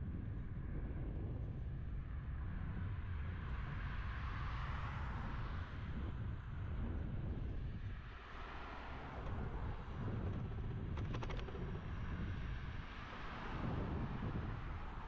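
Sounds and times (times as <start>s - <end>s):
wind buffeting the microphone: 0.0s - 8.2s, 9.0s - 15.0s.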